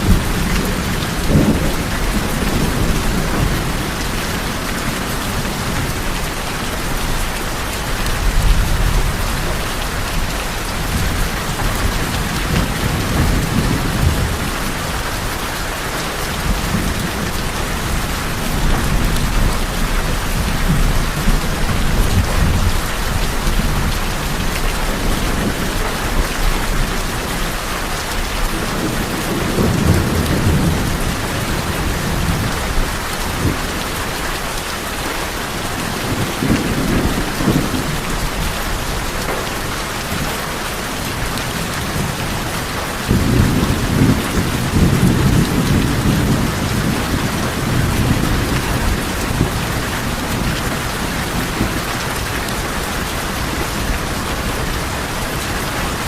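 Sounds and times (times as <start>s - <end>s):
rolling thunder: 0.0s - 34.0s, 41.1s - 56.0s
rain on a tin roof: 0.0s - 56.0s.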